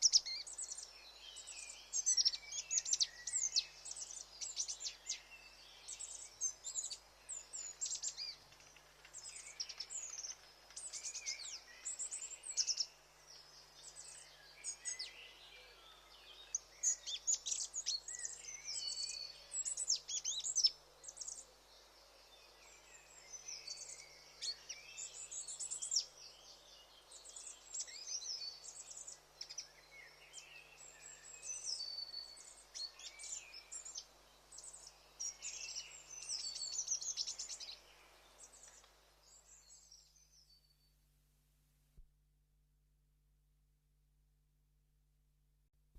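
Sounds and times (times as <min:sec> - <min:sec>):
small birds chirping: 0:00.0 - 0:40.9
faint outdoor hiss: 0:00.0 - 0:45.9.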